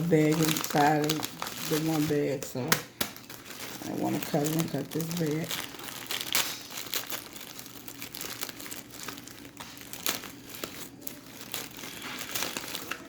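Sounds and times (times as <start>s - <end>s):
faint steady hum: 0.0s - 13.0s
plastic bag crinkling: 0.0s - 13.0s.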